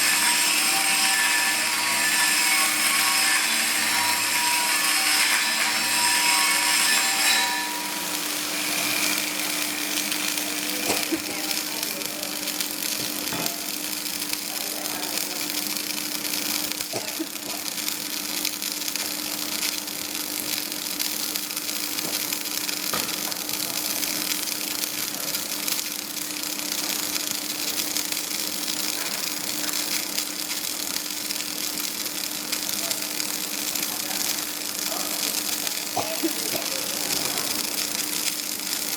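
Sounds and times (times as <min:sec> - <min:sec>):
welding arc crackling and hissing: 0:00.0 - 0:38.9.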